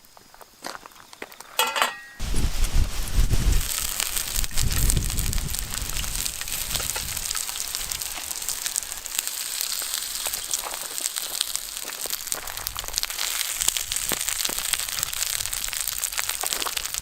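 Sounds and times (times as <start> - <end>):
campfire crackling and popping: 2.2 - 17.0.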